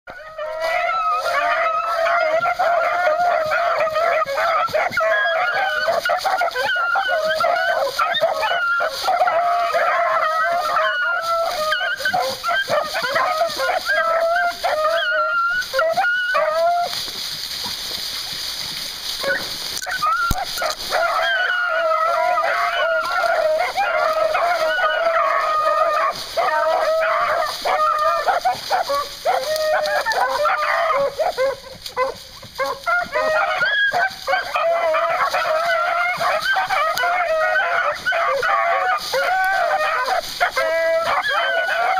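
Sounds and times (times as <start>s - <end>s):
hounds baying and yelping: 0.1s - 41.9s.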